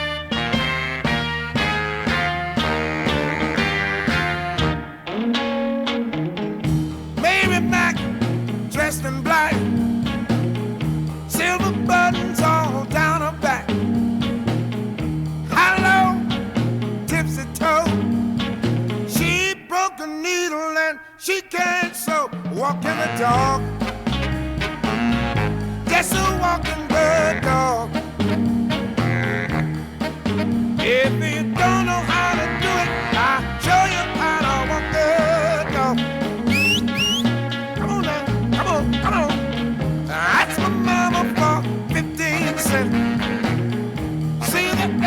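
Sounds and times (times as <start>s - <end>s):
rhythm and blues song: 0.0s - 45.0s.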